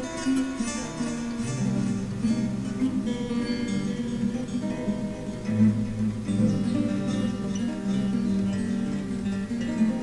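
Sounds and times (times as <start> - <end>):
acoustic guitar picking and strumming: 0.0 - 10.0.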